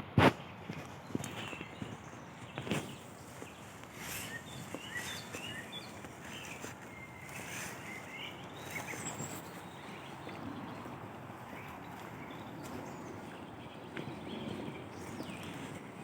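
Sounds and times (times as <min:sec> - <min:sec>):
footsteps on a forest path: 0:00.7 - 0:16.0
songbirds chirping and singing: 0:00.7 - 0:16.0.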